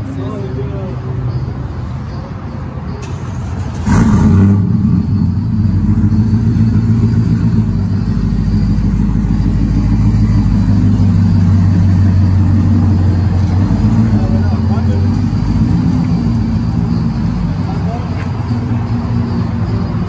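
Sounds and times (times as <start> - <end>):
pickup truck engine running: 3.4 - 20.0.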